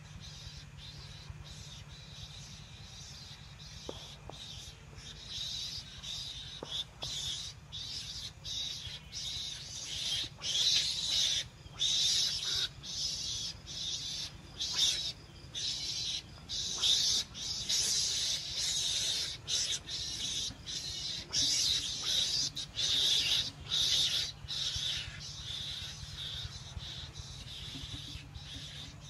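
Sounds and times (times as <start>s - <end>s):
high hissing animal calls: 0.0s - 29.0s.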